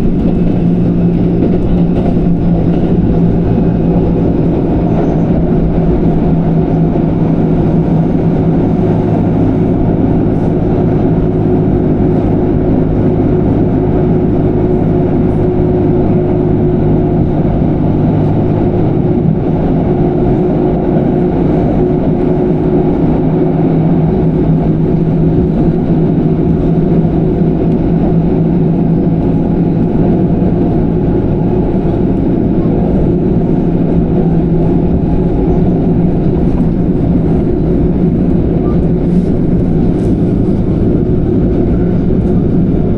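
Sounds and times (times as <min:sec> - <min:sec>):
electric train rumbling: 0:00.0 - 0:42.9
low hum: 0:00.0 - 0:42.9.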